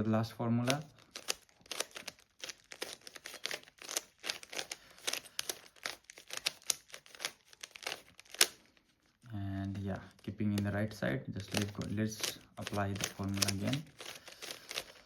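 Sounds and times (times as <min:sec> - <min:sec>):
puzzle cube clicking and rattling: 0:00.6 - 0:08.8, 0:09.6 - 0:15.0.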